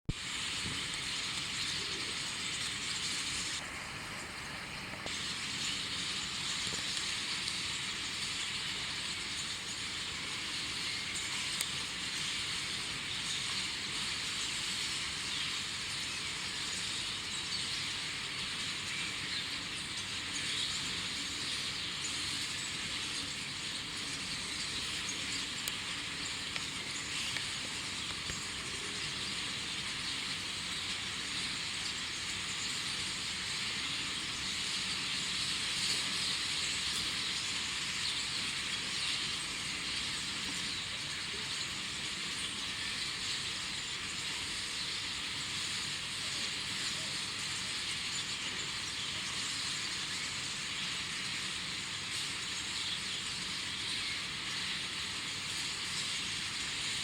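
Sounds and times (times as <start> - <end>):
birds singing in chorus: 0.3 - 3.6, 5.0 - 57.0.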